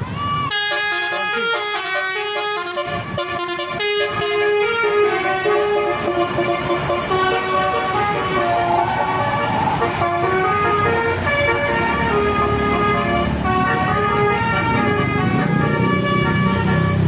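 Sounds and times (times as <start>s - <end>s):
multi-tone bus horn tune: 0.2s - 17.0s
low engine rumble: 1.2s - 17.0s.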